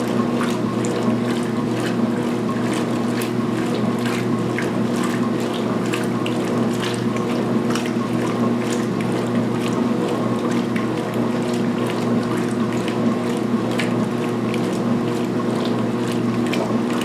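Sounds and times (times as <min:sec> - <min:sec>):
washing machine motor hum: 0:00.0 - 0:17.0
water sloshing and splashing: 0:00.0 - 0:17.0.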